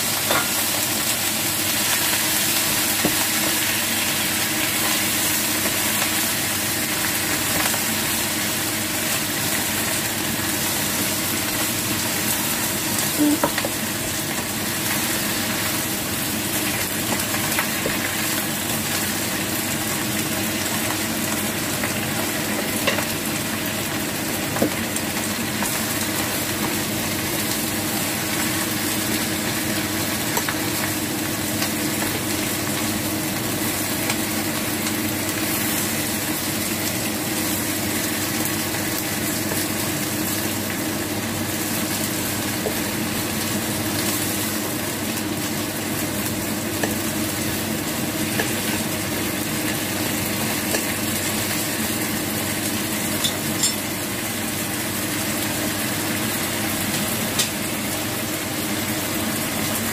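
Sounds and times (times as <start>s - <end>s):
greens sizzling in a frying pan: 0.0s - 59.9s.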